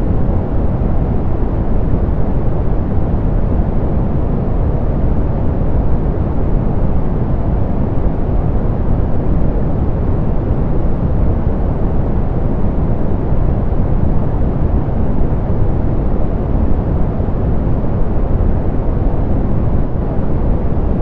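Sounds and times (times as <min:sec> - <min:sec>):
soft pink noise: 0:00.0 - 0:21.0.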